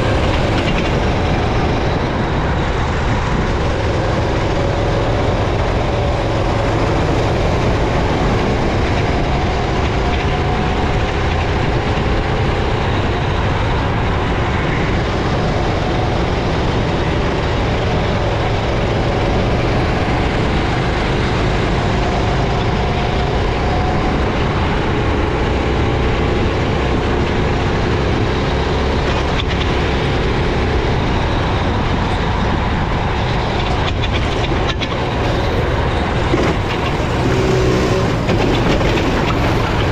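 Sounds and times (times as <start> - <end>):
kart engine at speed: 0.0 - 39.9
rush of noise on wet track: 0.0 - 39.9.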